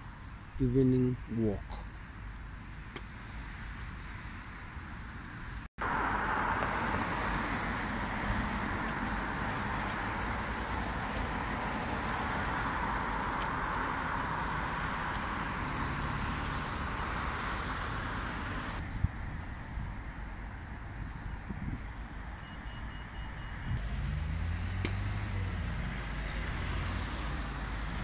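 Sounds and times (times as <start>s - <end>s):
traffic on wet road: 2.1s - 28.0s.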